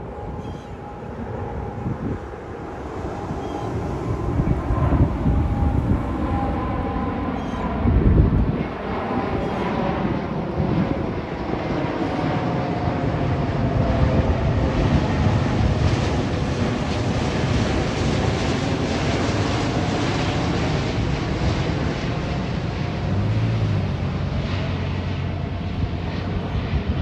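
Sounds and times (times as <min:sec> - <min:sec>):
jet airliner engines rushing: 0:00.0 - 0:27.0
wind buffeting microphone: 0:00.0 - 0:27.0.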